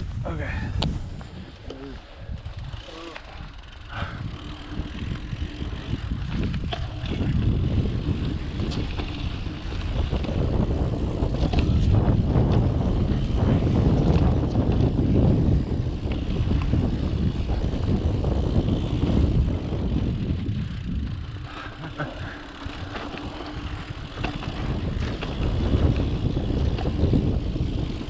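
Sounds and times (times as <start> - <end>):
wind buffeting microphone: 0.0 - 28.0
bike clicks and knocks: 0.7 - 28.0
tyres rumbling over dirt: 1.8 - 28.0.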